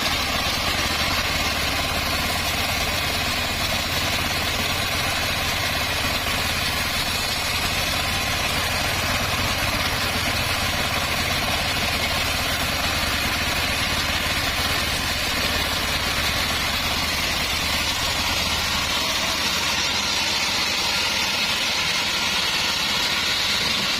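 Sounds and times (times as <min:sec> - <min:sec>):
bandsaw sawmill cutting wood: 0:00.0 - 0:23.9.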